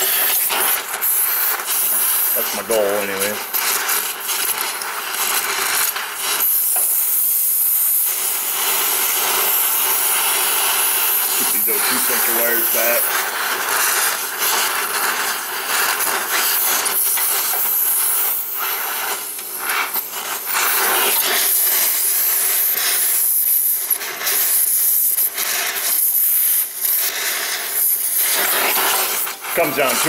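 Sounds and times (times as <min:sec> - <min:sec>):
torch flame hissing: 0:00.0 - 0:30.0.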